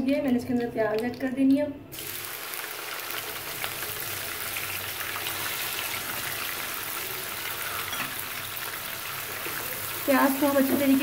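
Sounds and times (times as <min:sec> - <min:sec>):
onions sizzling in oil: 0:01.9 - 0:11.0.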